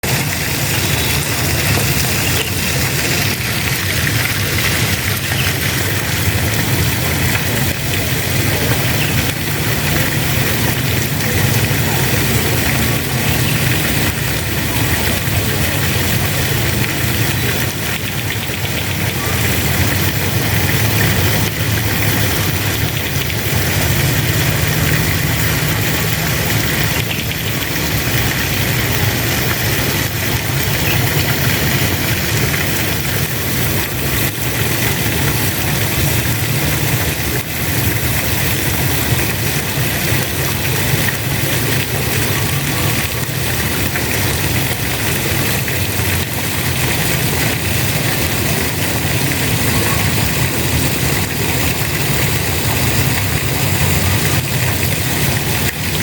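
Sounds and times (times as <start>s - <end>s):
water spraying: 0.0s - 56.0s.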